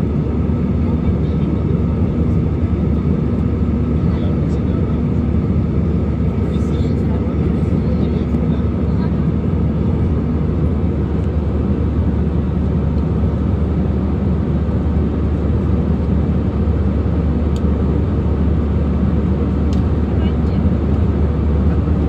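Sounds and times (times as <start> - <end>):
airliner cabin engine roar: 0.0 - 22.0.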